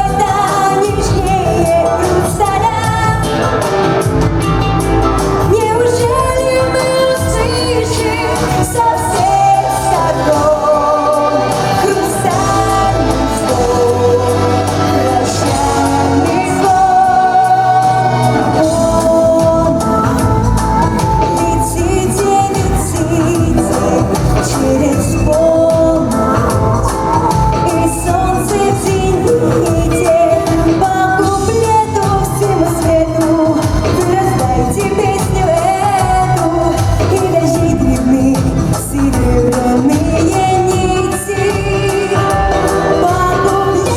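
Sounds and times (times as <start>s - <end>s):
instrumental backing music: 0.0s - 43.9s
woman singing: 0.0s - 43.9s.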